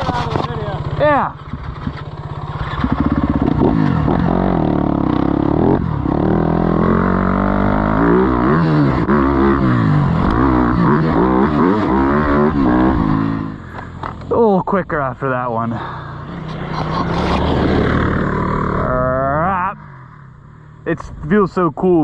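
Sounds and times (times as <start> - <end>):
off-road motorcycle engine revving: 0.0 - 22.0.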